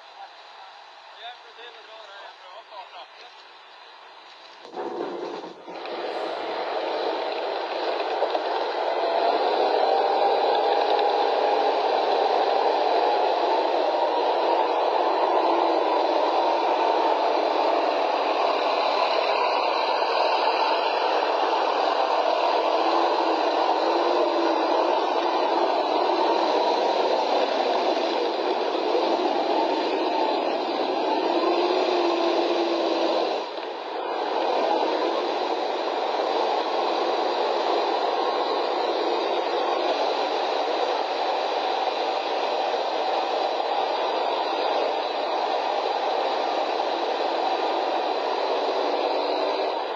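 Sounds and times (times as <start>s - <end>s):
tank engine and tracks running: 3.1s - 49.9s.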